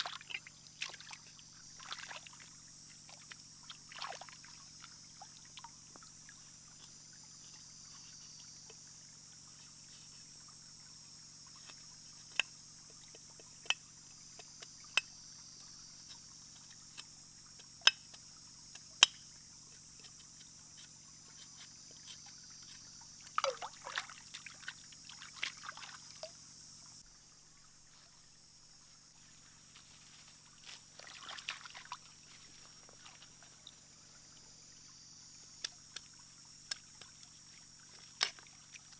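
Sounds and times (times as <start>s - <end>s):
water splashing and trickling: 0.0s - 15.2s, 20.6s - 38.9s
insects droning: 0.0s - 38.9s.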